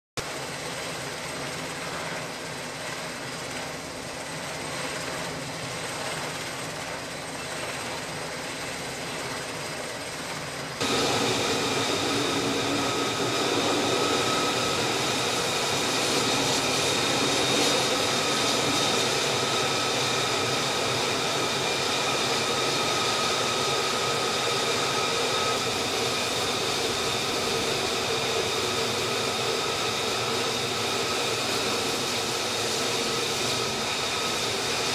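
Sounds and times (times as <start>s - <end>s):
jet engine running with whine: 0.2s - 34.9s.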